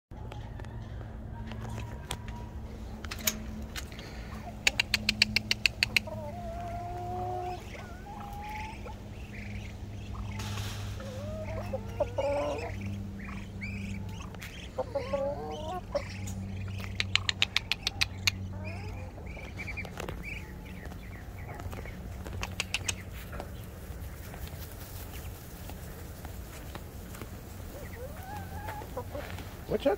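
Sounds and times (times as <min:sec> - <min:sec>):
chickens clucking and squawking: 0:00.2 - 0:29.9
steady low hum: 0:00.2 - 0:29.9.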